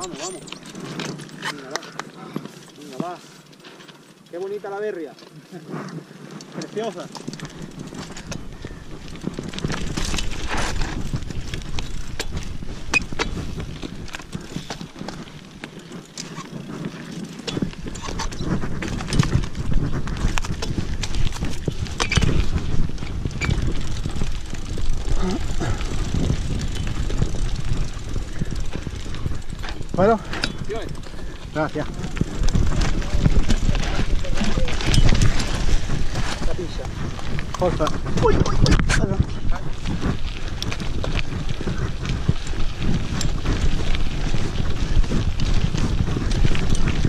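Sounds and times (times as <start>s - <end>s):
bike clattering over bumps: 0.0s - 47.0s
tyres crunching over dirt and stones: 0.0s - 47.0s
wind rumbling on microphone: 5.8s - 47.0s.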